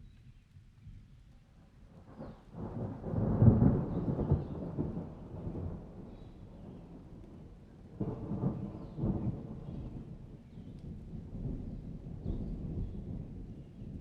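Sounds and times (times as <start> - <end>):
thunder rumbling: 2.6 - 14.0.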